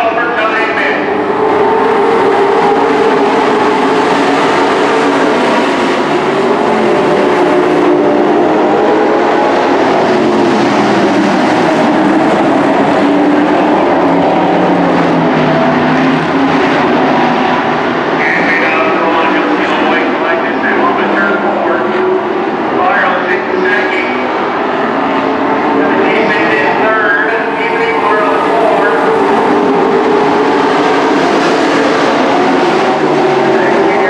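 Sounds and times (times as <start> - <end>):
race truck engines droning: 0.0 - 34.0.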